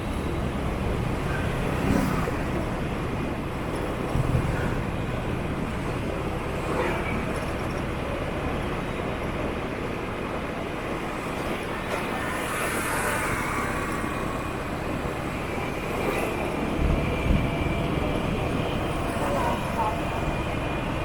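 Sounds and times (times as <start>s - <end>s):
motorbike traffic: 0.0s - 21.0s
scooter engine and road noise: 0.0s - 21.0s.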